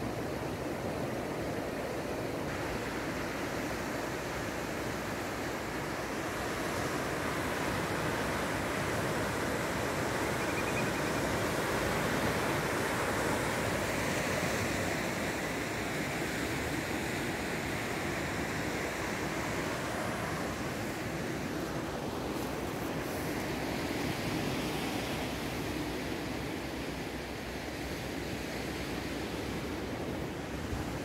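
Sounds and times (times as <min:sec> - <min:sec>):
sea surf on rocky shore: 0:00.0 - 0:31.0.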